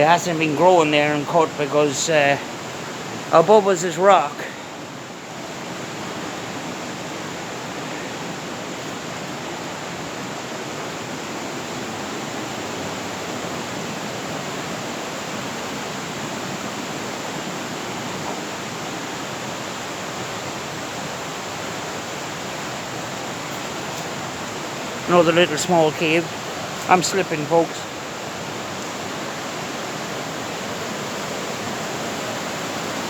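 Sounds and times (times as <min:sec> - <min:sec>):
fast-flowing river water rushing: 0:00.0 - 0:33.0.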